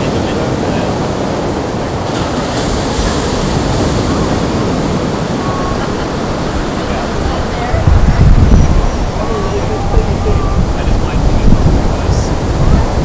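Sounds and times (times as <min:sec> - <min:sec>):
surf washing onto beach: 0:00.0 - 0:13.0
wind rumbling on microphone: 0:00.0 - 0:13.0.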